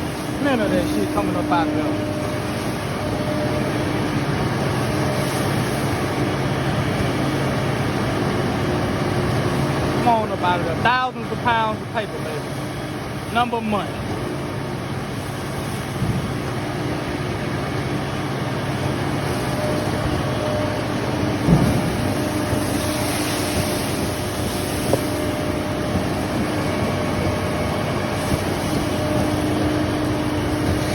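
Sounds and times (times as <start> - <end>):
truck engine and hydraulics humming: 0.0 - 30.9.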